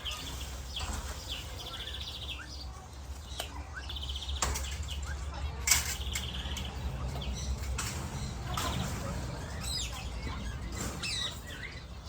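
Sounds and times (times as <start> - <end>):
parrots chirping and calling: 0.0 - 12.0.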